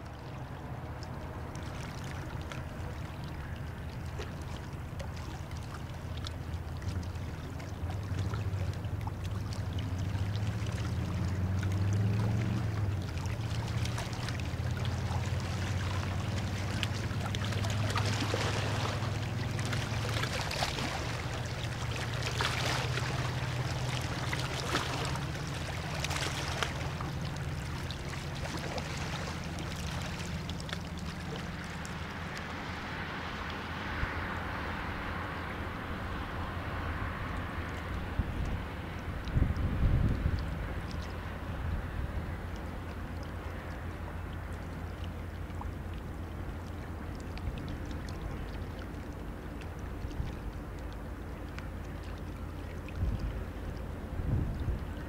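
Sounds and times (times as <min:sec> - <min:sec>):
ship engine drone: 0:00.0 - 0:55.0
water lapping against riverbank: 0:00.0 - 0:55.0.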